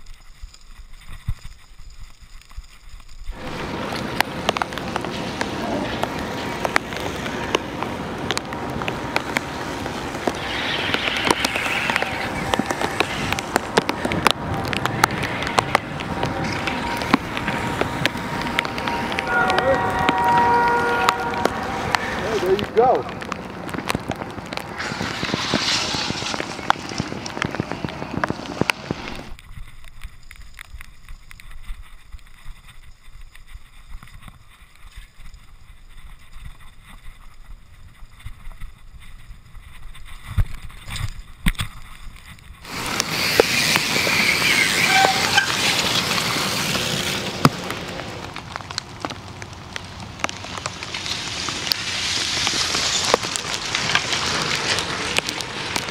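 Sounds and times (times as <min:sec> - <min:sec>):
bike tyre and wind noise: 0:00.0 - 0:55.9.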